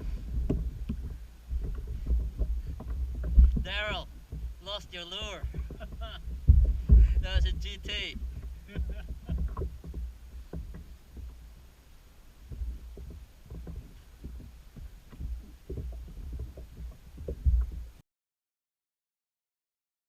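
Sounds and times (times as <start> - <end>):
low thumps and knocks: 0.0 - 11.8, 12.4 - 18.0.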